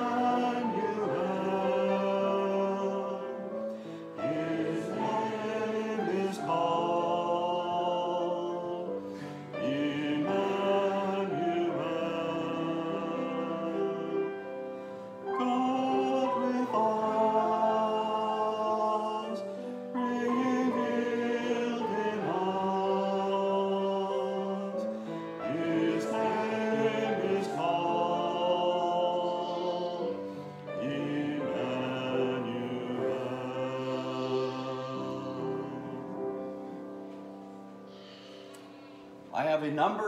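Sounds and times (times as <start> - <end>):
voices singing a hymn: 0.0 - 40.0.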